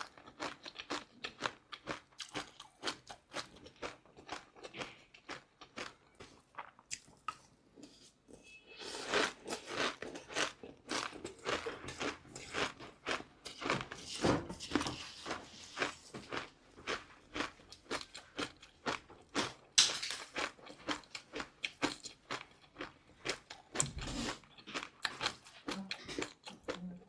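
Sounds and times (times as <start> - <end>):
chewing crunchy food: 0.0 - 8.1, 8.9 - 27.0.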